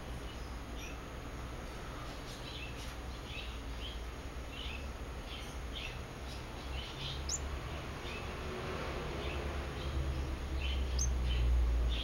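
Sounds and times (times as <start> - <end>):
small bird chirping: 0.0 - 12.0
steady low hum: 0.0 - 12.0.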